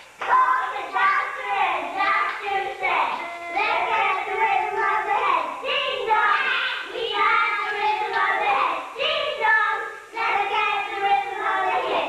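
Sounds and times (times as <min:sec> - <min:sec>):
girls singing together: 0:00.0 - 0:12.0.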